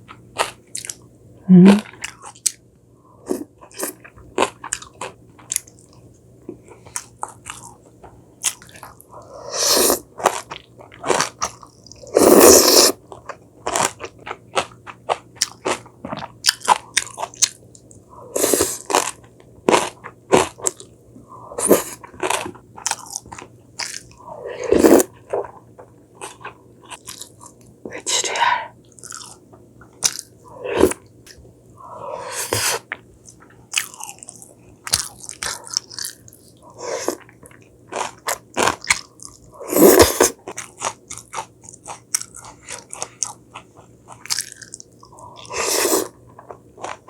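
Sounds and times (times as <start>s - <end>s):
person chewing crunchy food: 1.7s - 2.6s, 3.3s - 6.0s, 6.6s - 20.9s, 21.6s - 31.4s, 32.0s - 47.0s.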